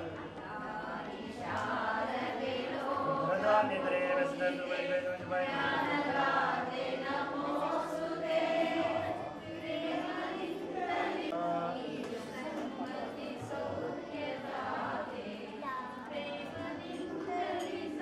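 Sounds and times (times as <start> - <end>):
group chanting a hymn: 0.0 - 18.0.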